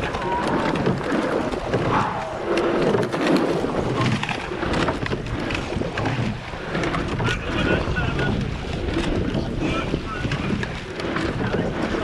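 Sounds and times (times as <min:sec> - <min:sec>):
oars clicking and knocking: 0:00.0 - 0:12.0
wind and water rushing: 0:00.0 - 0:12.0.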